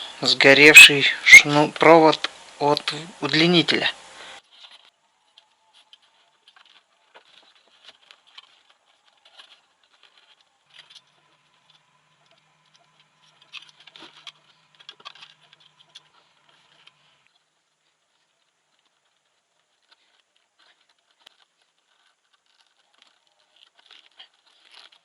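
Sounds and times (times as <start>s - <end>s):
faint low hum: 0.0s - 25.0s
clicks and rustles of hands: 4.5s - 25.0s.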